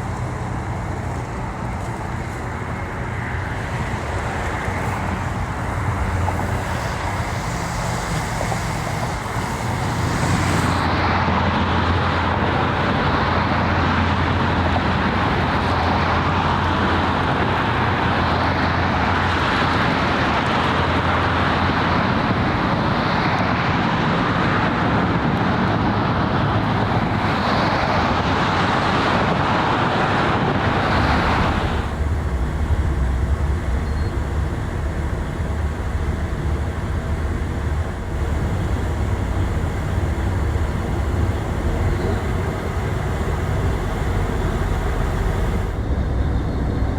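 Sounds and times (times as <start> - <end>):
broad rushing noise: 0.0 - 46.9
low engine hum: 0.0 - 46.9.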